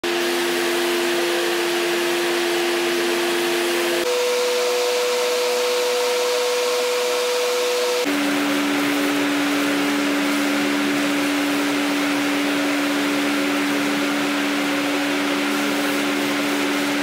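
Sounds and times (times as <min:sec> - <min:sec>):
cleaning machine motor humming: 0:00.0 - 0:17.0.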